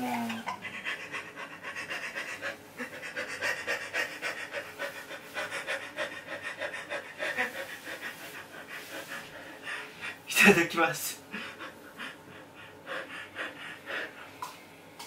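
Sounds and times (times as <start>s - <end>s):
person panting hard: 0.6s - 10.3s, 11.2s - 14.4s.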